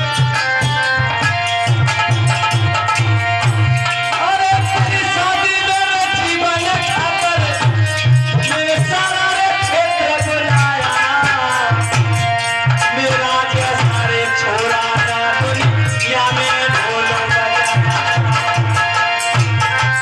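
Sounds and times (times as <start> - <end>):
hand drums beating: 0.0 - 20.0
man singing into a microphone: 0.0 - 20.0.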